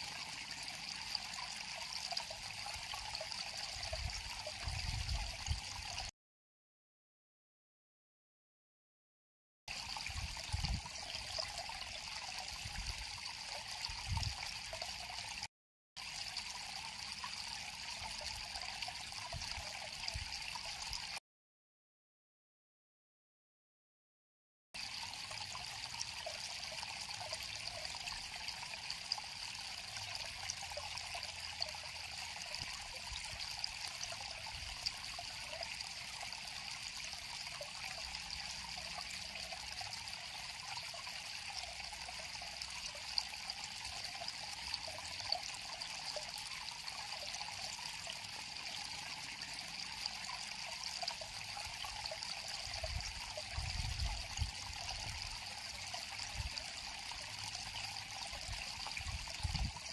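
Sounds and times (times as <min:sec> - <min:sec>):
river water trickling: 0:00.0 - 0:06.1, 0:09.7 - 0:21.2, 0:24.8 - 0:59.9.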